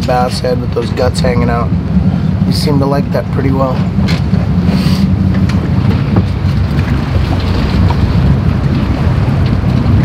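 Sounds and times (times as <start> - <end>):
boat engine rumbling: 0.0 - 10.0
wind noise on microphone: 0.0 - 10.0.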